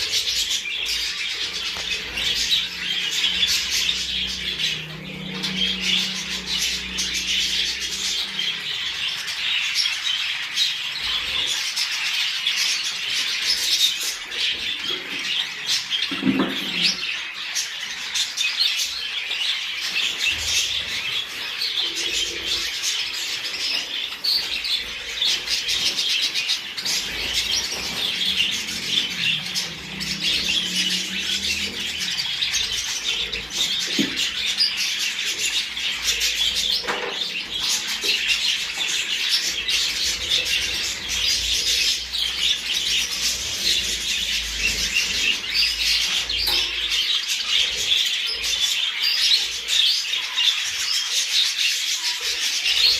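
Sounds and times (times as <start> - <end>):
budgerigars chattering and chirping: 0.0 - 52.9.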